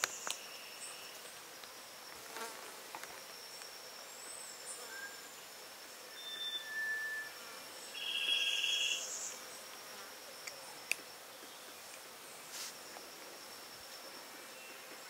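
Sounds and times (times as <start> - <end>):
buzzing insect trill: 0.0 - 15.0
insects high whine: 0.0 - 15.0.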